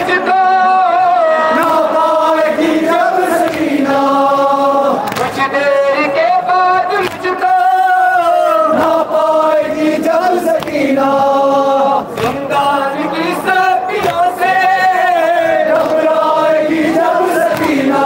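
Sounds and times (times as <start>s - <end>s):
crowd of men chanting in unison: 0.0s - 18.0s.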